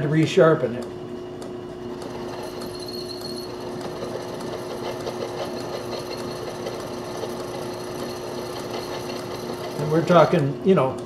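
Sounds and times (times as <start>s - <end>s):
metal lathe humming and whirring: 1.5s - 11.0s.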